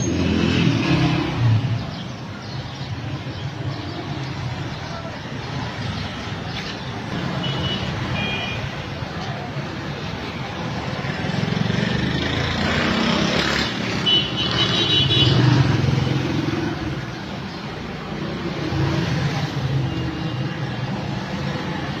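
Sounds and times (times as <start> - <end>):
passing vehicle engines: 0.0 - 22.0.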